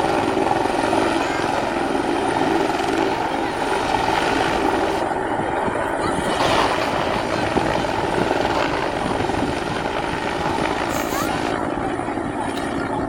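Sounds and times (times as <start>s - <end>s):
helicopter rotor chopping: 0.0s - 13.0s
turbine noise: 0.0s - 13.0s.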